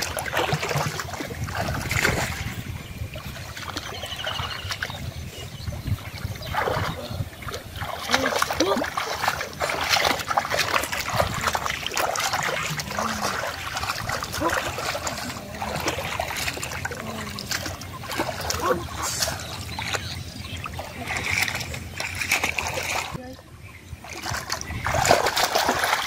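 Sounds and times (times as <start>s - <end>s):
water dripping and trickling: 0.0s - 23.2s
splashing in muddy water: 0.0s - 23.3s, 24.0s - 26.0s.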